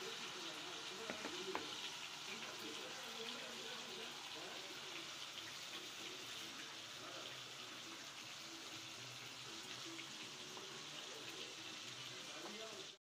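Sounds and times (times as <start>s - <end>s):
meat deep-frying in oil: 0.0s - 13.0s.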